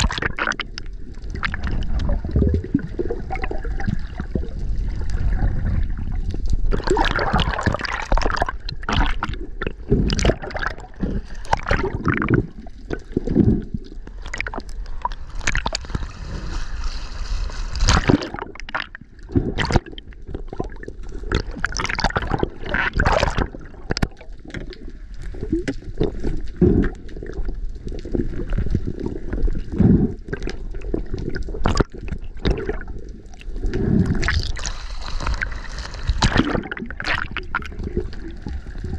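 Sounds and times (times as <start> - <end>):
water sloshing and gurgling: 0.0 - 38.9.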